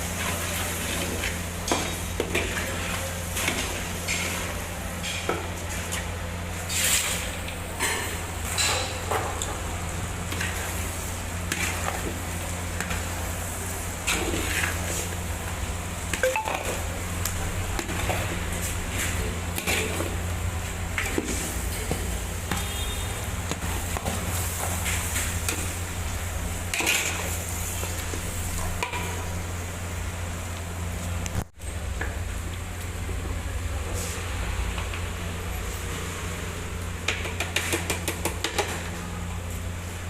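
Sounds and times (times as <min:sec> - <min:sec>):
faint sizzle of frying: 0:00.0 - 0:37.2.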